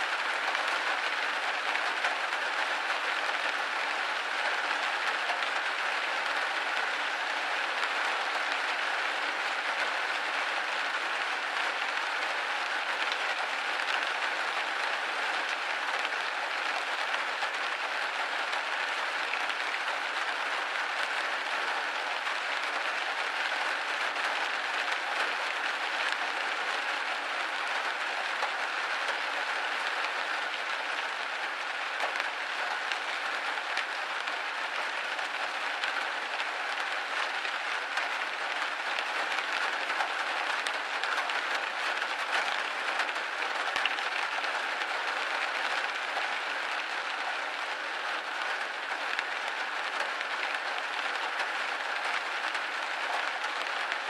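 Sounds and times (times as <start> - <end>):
rain pattering on a window: 0.0 - 54.0.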